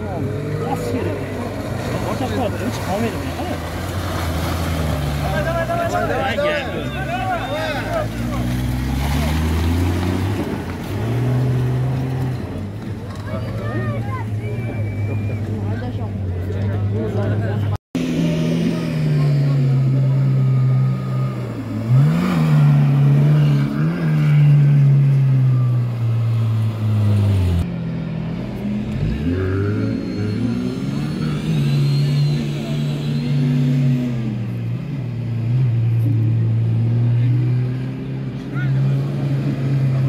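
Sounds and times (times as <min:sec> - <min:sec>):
vehicle engine running and revving: 0:00.0 - 0:40.0.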